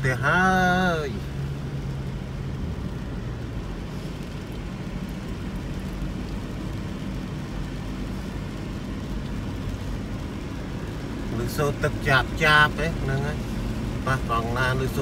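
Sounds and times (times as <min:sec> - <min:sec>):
car road rumble: 0:00.0 - 0:15.0
tyres hissing on wet pavement: 0:00.0 - 0:15.0.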